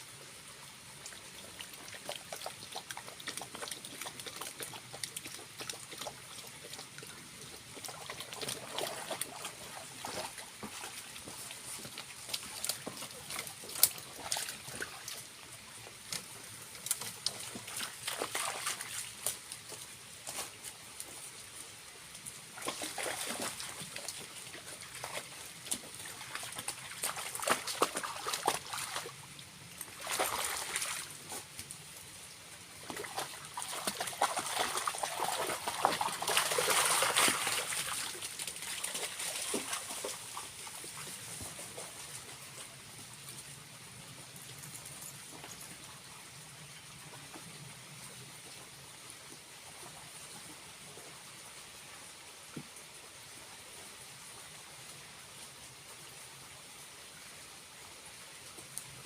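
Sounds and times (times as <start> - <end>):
waterfall trickling and splashing: 0.0 - 59.0.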